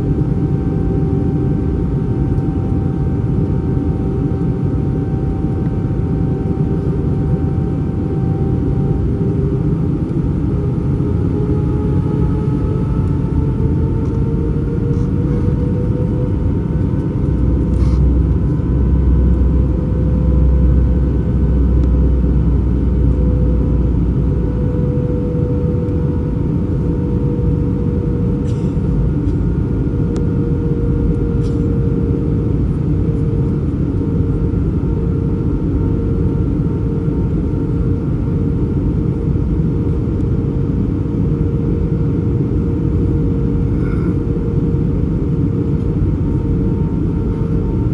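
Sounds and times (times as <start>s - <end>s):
deep rumble: 0.0s - 47.9s
jet engine cabin drone: 0.0s - 47.9s.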